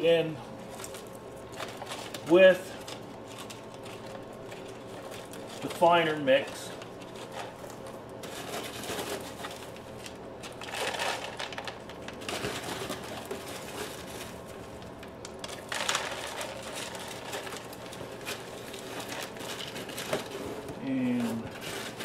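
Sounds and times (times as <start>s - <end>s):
potting mix rustling and crunching: 0.0s - 22.0s.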